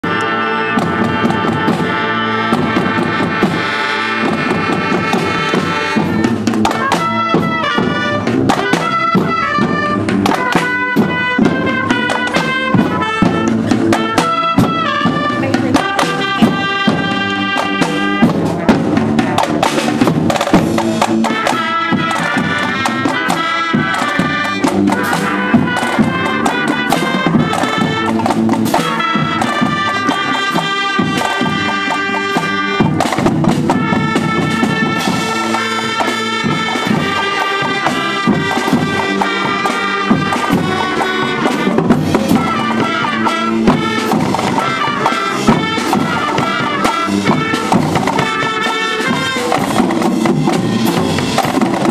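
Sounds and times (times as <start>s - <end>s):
marching band woodwinds and trumpets: 0.0s - 51.9s
steady drum beat: 0.0s - 51.9s.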